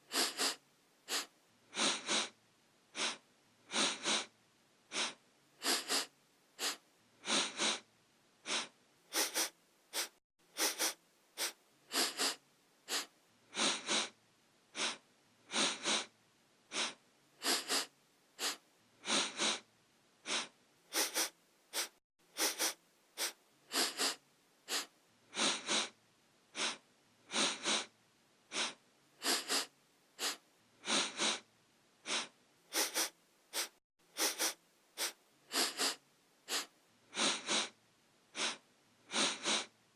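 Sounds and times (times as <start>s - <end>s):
person sniffing: 0.0s - 4.3s, 4.9s - 16.1s, 16.7s - 27.9s, 28.5s - 39.8s.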